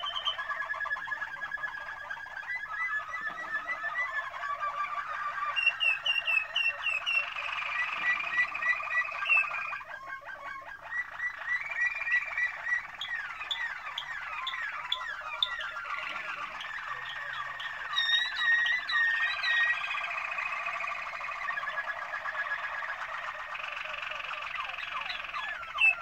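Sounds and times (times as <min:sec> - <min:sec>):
canaries singing: 0:00.0 - 0:26.0.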